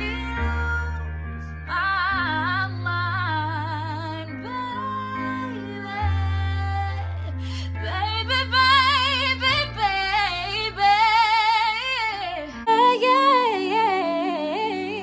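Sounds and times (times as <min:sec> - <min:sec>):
woman singing wordless melody: 0:00.0 - 0:15.0.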